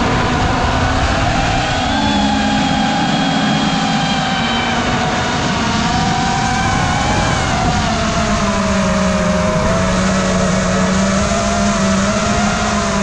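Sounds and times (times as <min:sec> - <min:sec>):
drone propellers whining: 0:00.0 - 0:13.0
wind noise: 0:00.0 - 0:13.0.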